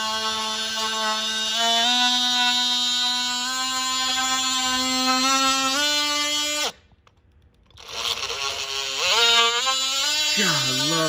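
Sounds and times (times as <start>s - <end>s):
oscillating multi-tool buzzing: 0.0s - 7.0s, 7.7s - 11.0s.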